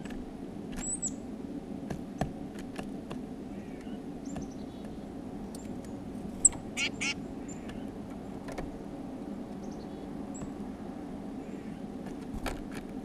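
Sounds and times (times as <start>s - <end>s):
low background rumble: 0.0s - 13.0s
songbirds chirping: 0.0s - 13.0s.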